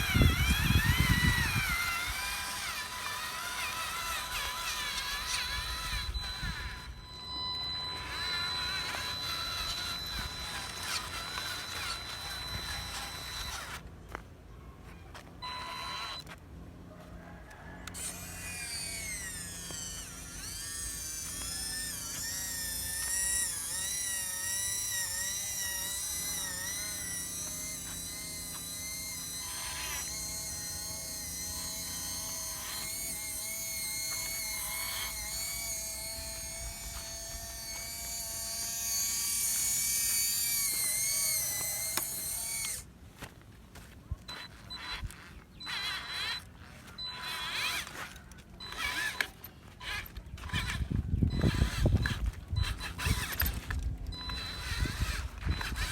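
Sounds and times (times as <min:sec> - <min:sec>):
toy truck motors whining: 0:00.0 - 0:55.9.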